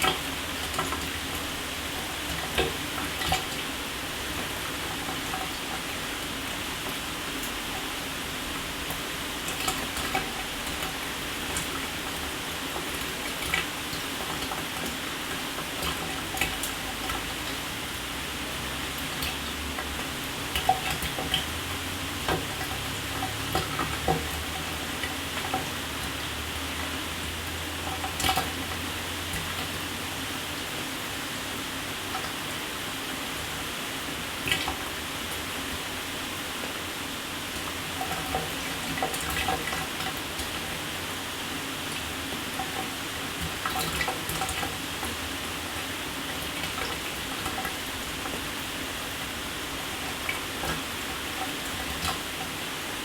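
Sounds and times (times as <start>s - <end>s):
shower spraying water: 0.0s - 53.0s
water splashes and drips: 0.0s - 53.0s.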